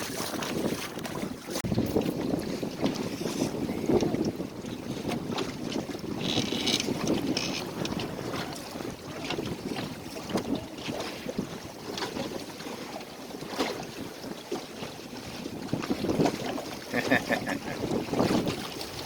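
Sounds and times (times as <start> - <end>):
water sloshing against boat hull: 0.0 - 19.0
wind buffeting microphone: 0.0 - 19.0.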